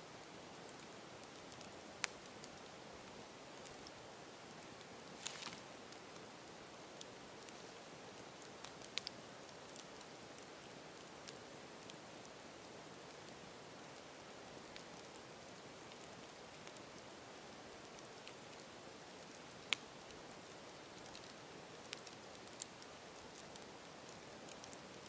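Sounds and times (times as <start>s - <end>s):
campfire hissing and crackling: 0.0s - 25.0s.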